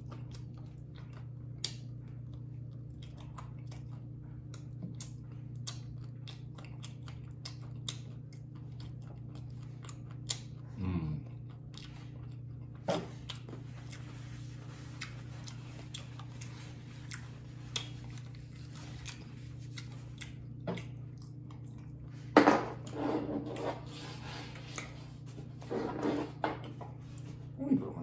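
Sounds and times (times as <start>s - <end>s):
person chewing chicken wings: 0.0s - 25.6s
steady low hum: 0.0s - 28.0s.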